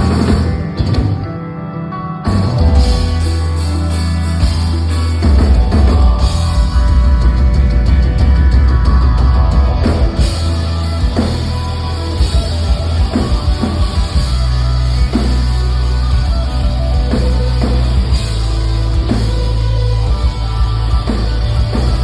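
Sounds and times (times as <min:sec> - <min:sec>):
drum kit: 0:00.0 - 0:01.4, 0:02.2 - 0:22.0
bass guitar: 0:00.0 - 0:22.0
distorted electric guitars: 0:00.0 - 0:22.0.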